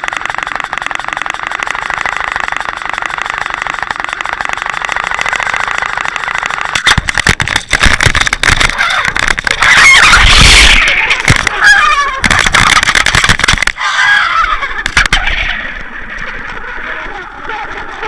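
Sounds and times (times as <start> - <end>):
boat motor drone: 0.0 - 18.0.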